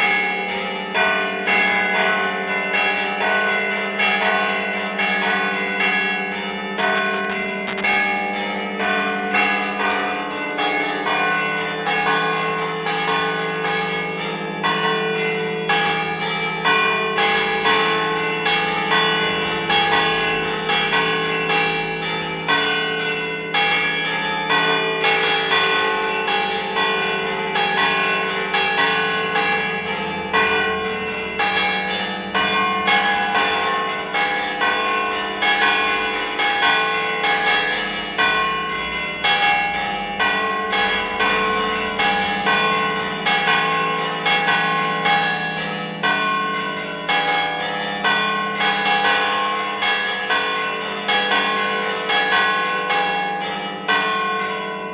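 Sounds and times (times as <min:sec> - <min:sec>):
church bell ringing: 0:00.0 - 0:54.9.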